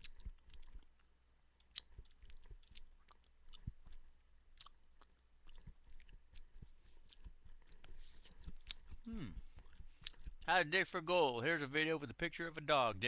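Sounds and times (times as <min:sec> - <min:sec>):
faint chewing: 0:00.0 - 0:10.5.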